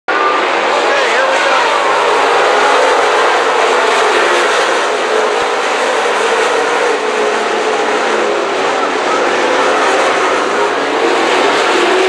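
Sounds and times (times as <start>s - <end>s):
race car engines at speed: 0.1s - 12.0s.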